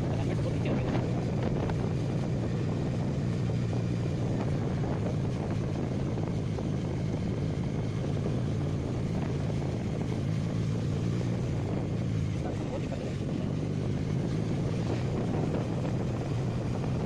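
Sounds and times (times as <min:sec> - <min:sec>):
motorcycle engine cruising: 0:00.0 - 0:17.0
road noise: 0:00.0 - 0:17.0.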